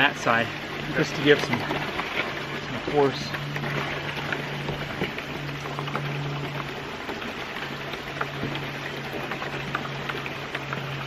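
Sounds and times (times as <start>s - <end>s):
low steady hum: 0.0s - 11.0s
small drips and ticks: 0.0s - 11.0s
water running and splashing: 0.0s - 11.0s.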